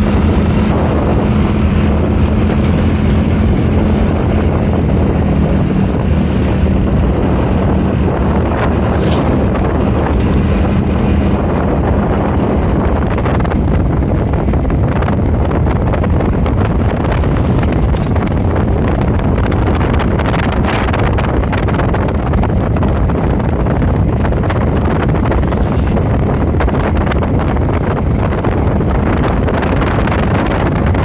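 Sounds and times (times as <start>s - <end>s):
low hum: 0.0s - 31.0s
vehicle running noise: 0.0s - 31.0s
wind rushing over microphone: 0.0s - 31.0s.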